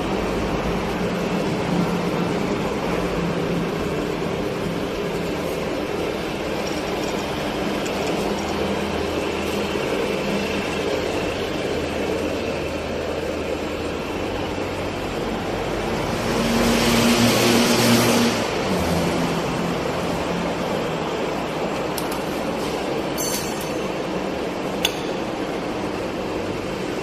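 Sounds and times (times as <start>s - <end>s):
milling machine humming: 0.0s - 27.0s.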